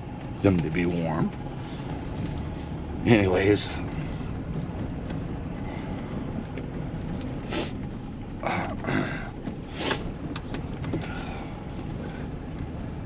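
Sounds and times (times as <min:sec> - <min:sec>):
vehicle running rumble: 0:00.0 - 0:13.0.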